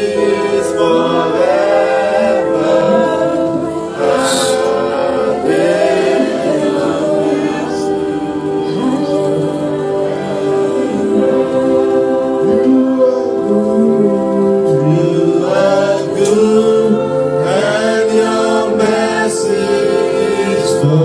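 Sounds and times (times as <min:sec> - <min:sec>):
choir singing worship song: 0:00.0 - 0:21.0.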